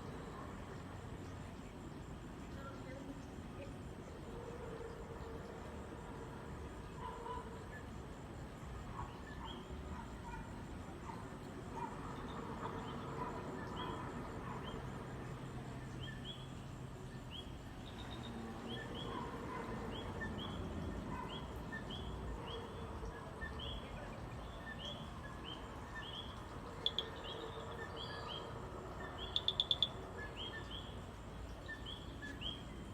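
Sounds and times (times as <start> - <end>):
tree frogs chirping: 0.0 - 32.9.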